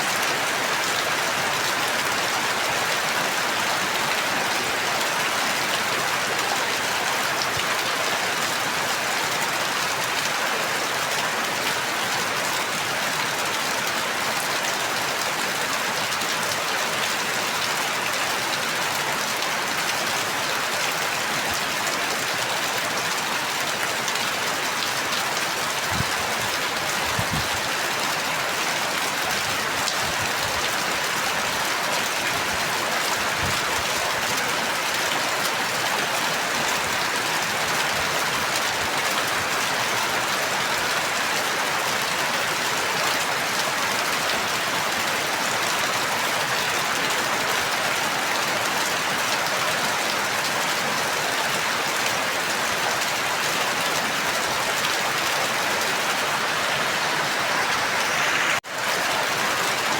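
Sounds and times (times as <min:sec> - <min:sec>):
dense rain falling: 0:00.0 - 0:59.9.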